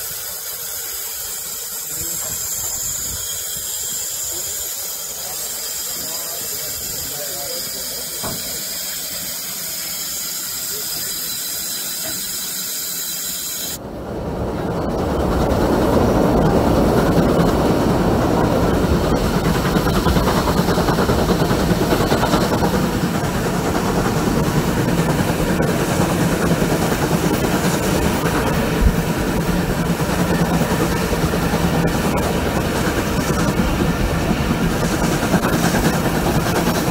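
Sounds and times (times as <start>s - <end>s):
steam hissing from locomotive: 0.0s - 13.8s, 15.6s - 36.9s
steam locomotive working: 0.0s - 36.9s
train wheels on track: 0.0s - 36.9s.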